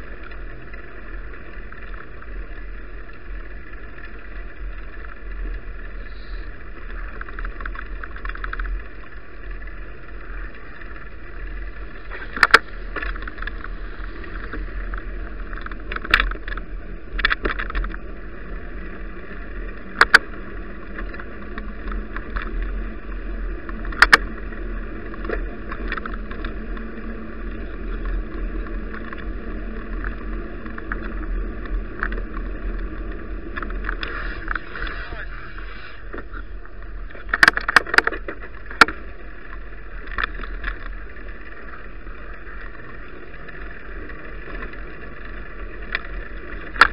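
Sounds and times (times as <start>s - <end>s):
low rumble: 0.0s - 46.7s
road and wind noise: 0.0s - 46.9s.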